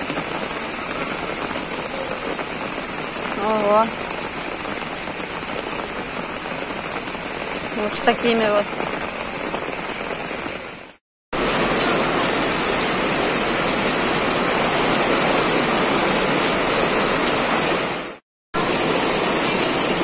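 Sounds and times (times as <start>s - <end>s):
heavy rain pouring on street: 0.0s - 20.0s.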